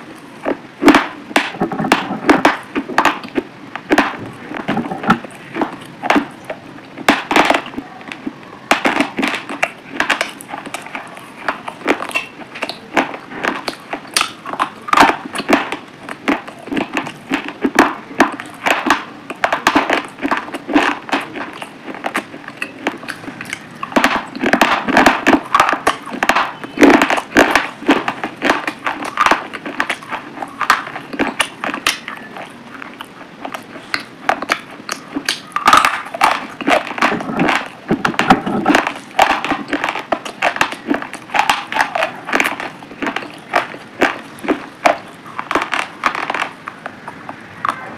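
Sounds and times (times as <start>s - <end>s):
chewing crunchy food: 0.0s - 47.9s.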